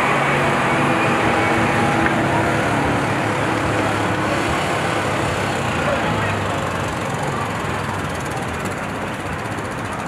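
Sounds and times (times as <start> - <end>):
steady engine drone: 0.0 - 10.0.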